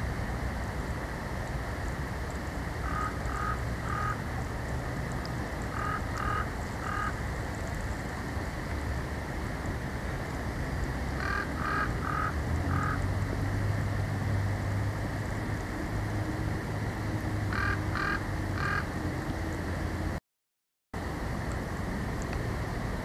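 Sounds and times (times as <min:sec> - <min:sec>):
steady background hiss: 0:00.0 - 0:20.2, 0:21.0 - 0:23.0.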